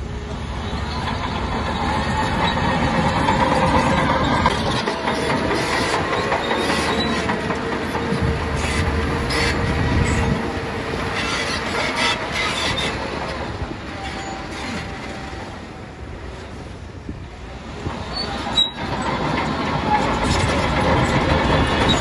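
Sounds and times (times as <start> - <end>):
diesel engine under load: 0.0 - 22.0
steel tracks clanking and squealing: 0.0 - 22.0.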